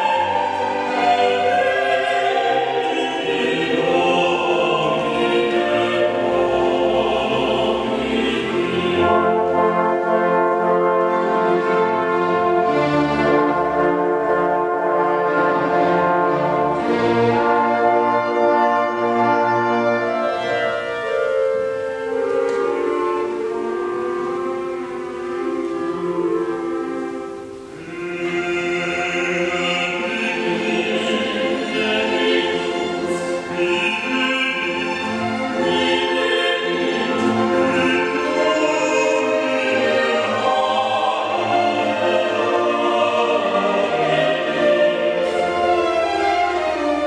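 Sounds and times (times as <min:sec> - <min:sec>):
orchestra playing slow held chords: 0:00.0 - 0:47.0.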